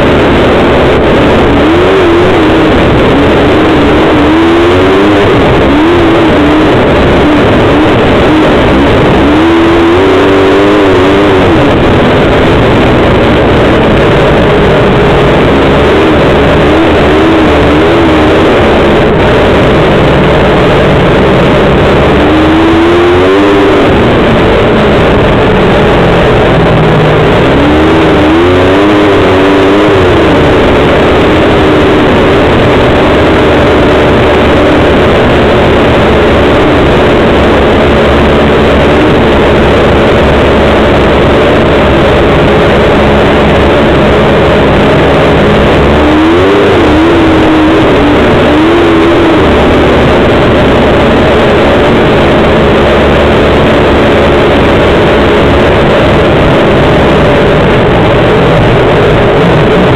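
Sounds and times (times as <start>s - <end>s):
small vehicle engine running: 0.0s - 59.9s.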